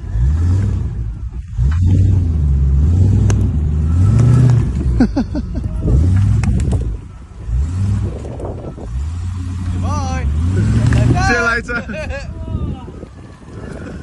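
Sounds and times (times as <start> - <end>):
engine revving: 0.0 - 11.7.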